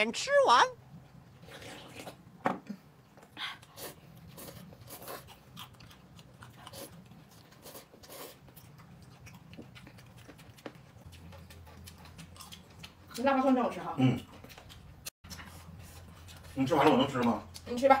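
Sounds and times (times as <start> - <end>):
person chewing and crunching food: 3.2 - 18.0.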